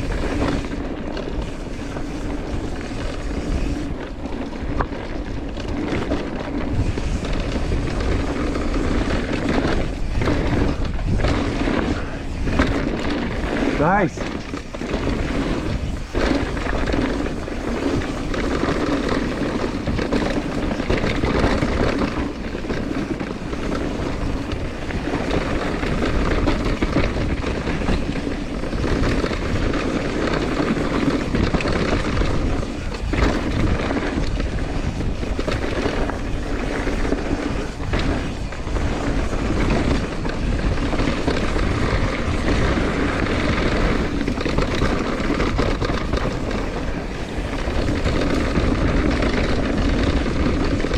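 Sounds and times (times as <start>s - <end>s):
bike tyres rolling on dirt trail: 0.0s - 50.9s
wind rushing over microphone: 0.0s - 50.9s.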